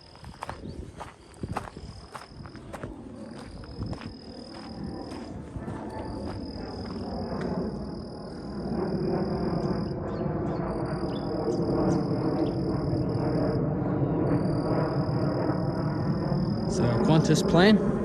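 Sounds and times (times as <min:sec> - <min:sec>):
jet airliner flying over: 0:00.0 - 0:18.0.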